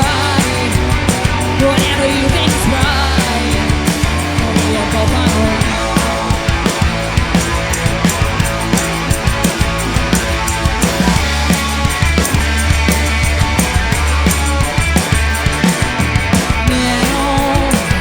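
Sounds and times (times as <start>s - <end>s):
drum hits: 0.0s - 18.0s
rock band playing: 0.0s - 18.0s.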